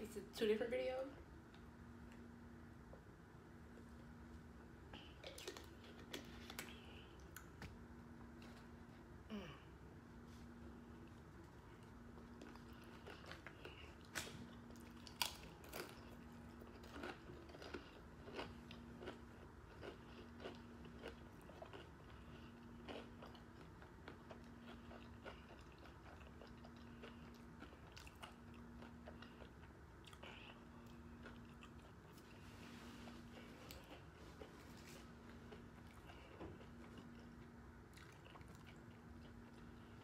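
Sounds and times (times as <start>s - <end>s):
chewing and crunching taco: 2.9s - 40.0s.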